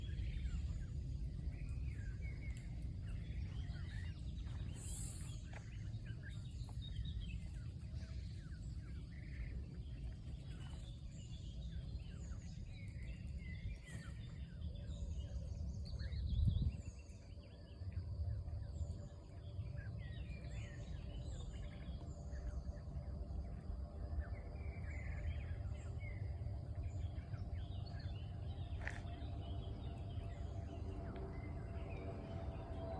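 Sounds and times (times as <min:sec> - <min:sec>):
small birds chirping: 0:00.0 - 0:32.9
steady low rumble: 0:00.0 - 0:32.9.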